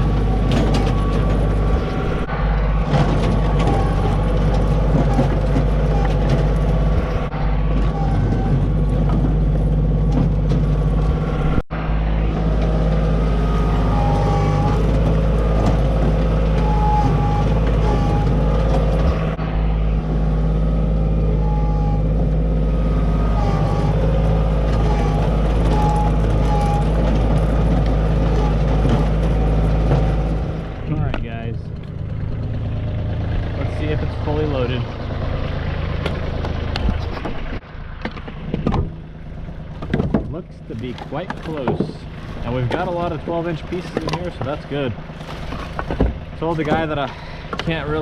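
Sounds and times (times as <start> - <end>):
loader engine running: 0.0 - 48.0.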